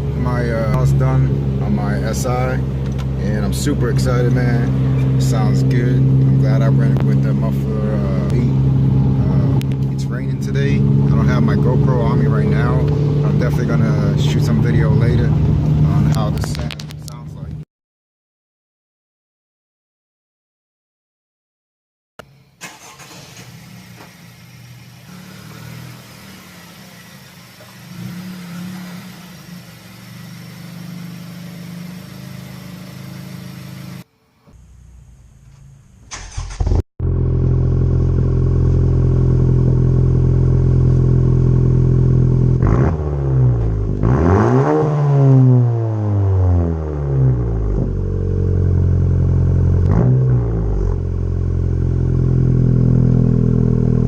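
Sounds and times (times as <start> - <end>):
car engine idling and revving: 0.0 - 17.6, 22.3 - 34.0, 34.6 - 54.0.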